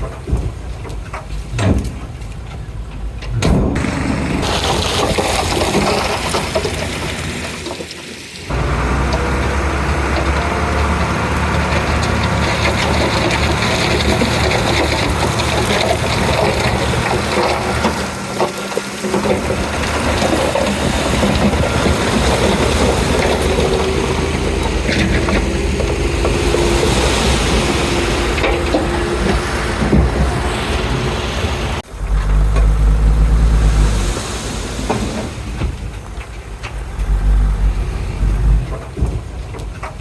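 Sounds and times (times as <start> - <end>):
bulldozer diesel engine running: 2.5 - 40.0.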